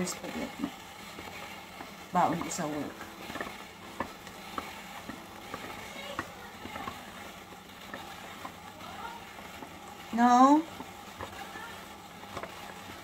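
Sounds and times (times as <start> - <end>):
spiralizer clicking and crunching: 0.0 - 13.0.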